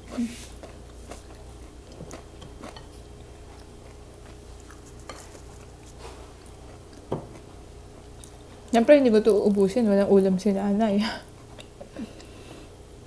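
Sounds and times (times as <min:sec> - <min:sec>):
chewing: 0:00.1 - 0:09.7, 0:11.2 - 0:12.8.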